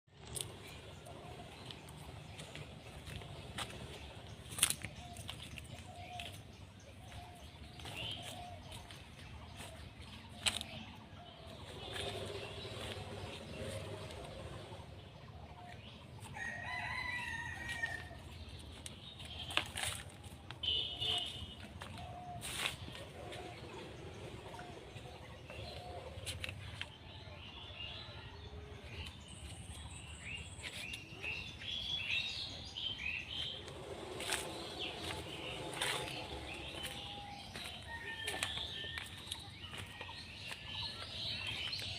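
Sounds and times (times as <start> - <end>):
birds chirping and calling: 0.2 - 27.4, 28.8 - 41.9.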